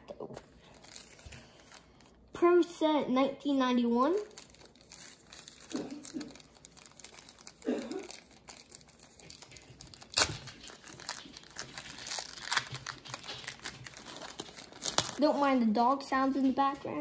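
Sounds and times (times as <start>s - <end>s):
plastic wrapper crinkling and tearing: 0.1s - 2.3s, 4.0s - 15.5s.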